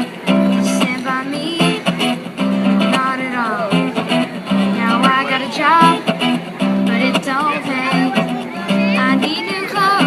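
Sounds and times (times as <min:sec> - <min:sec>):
strummed acoustic guitar: 0:00.0 - 0:10.0
person singing: 0:00.3 - 0:10.0.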